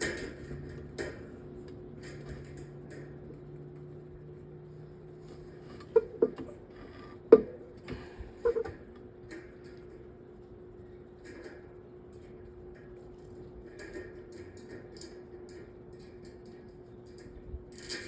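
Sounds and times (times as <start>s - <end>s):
electric fan motor hum: 0.0s - 18.0s.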